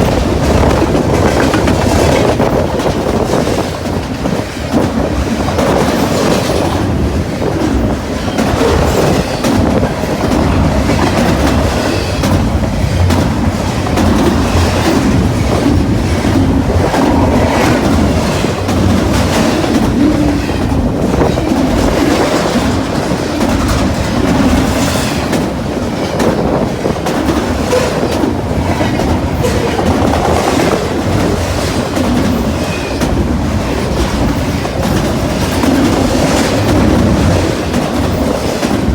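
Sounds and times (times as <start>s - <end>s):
freight train wheels clattering: 0.0s - 38.9s
wind buffeting microphone: 0.0s - 38.9s.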